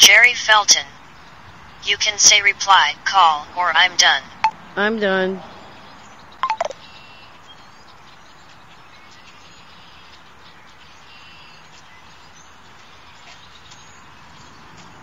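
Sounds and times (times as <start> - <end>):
outdoor background hiss: 0.0 - 15.0
small birds chirping: 0.9 - 2.6, 4.4 - 15.0.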